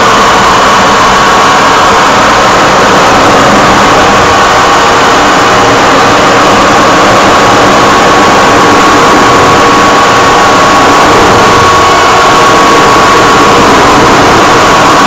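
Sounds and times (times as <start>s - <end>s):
jet engine and airflow noise: 0.0s - 15.0s
steady high whine: 0.0s - 15.0s.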